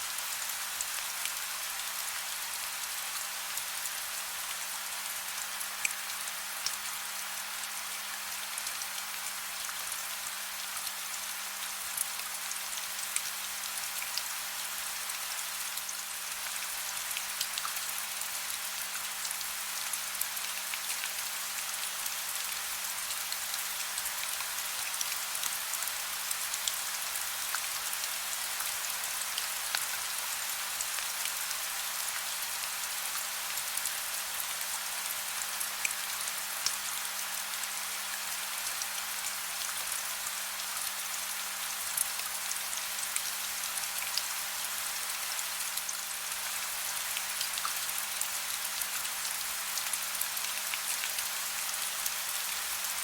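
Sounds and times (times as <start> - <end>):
soft rain falling: 0.0 - 53.0.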